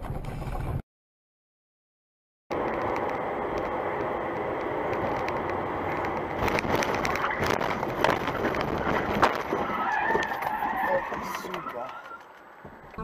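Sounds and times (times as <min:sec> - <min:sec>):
car road and engine noise: 0:00.0 - 0:00.8, 0:02.5 - 0:13.0.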